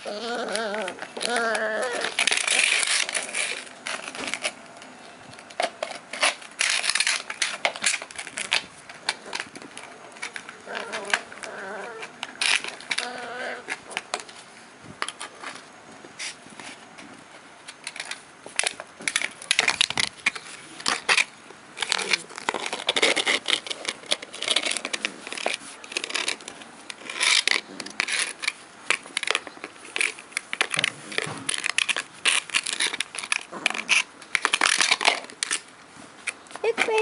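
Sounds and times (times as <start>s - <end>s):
plastic pot scraping on concrete: 0.0s - 35.6s.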